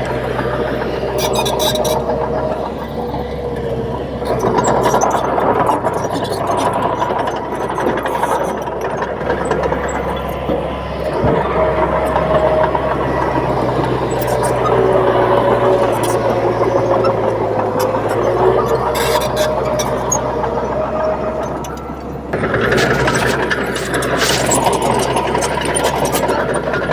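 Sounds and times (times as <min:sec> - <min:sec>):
bulldozer diesel engine running: 0:00.0 - 0:26.9.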